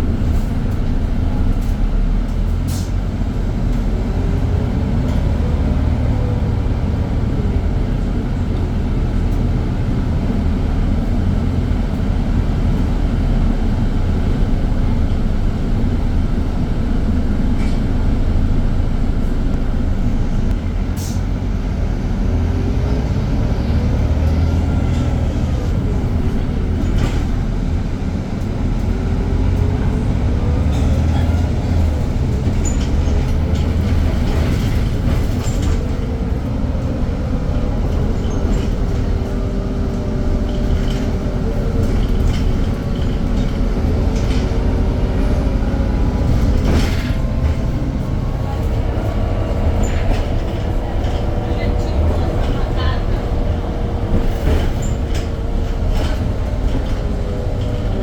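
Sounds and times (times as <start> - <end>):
diesel bus engine rumble: 0.0 - 58.0.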